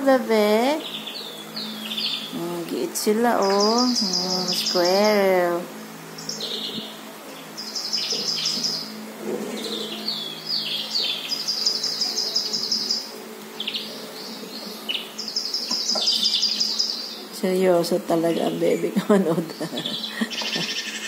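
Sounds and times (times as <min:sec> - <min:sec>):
songbird chirp trills: 0:00.0 - 0:21.0.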